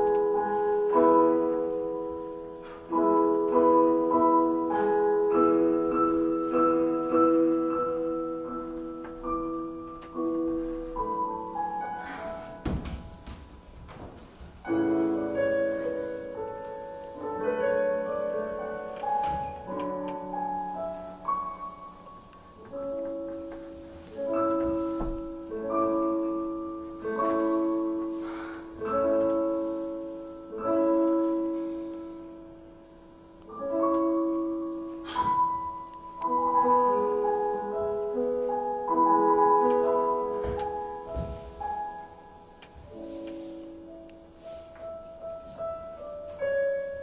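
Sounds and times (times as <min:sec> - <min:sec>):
slow keyboard chords: 0:00.0 - 0:13.8, 0:14.6 - 0:47.0.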